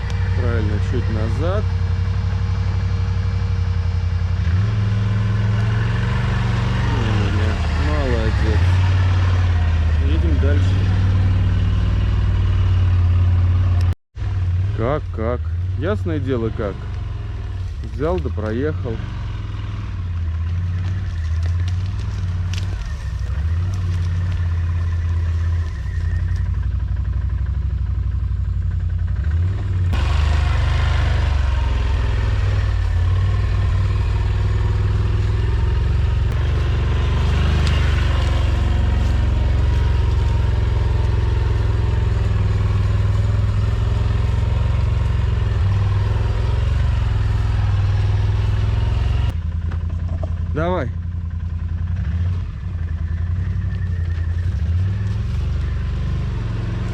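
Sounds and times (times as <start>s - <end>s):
atv engine running under load: 0.0s - 56.9s.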